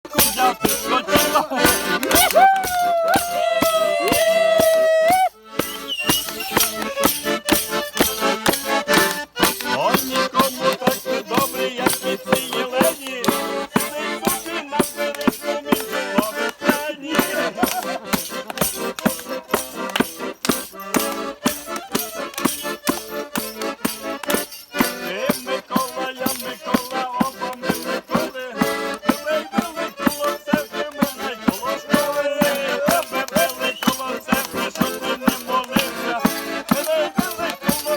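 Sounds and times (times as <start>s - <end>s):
accordion melody: 0.0s - 37.9s
rattling percussion: 0.1s - 37.9s.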